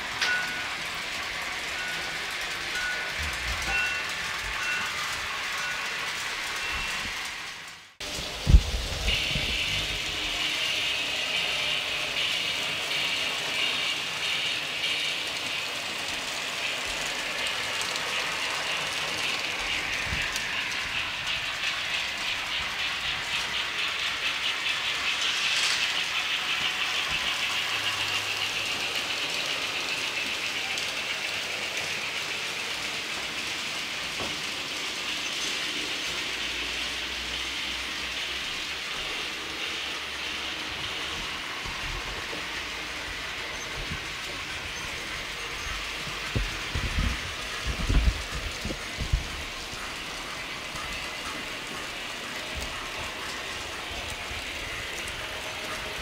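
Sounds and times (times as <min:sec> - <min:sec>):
model trains running on track: 0:00.0 - 0:56.0.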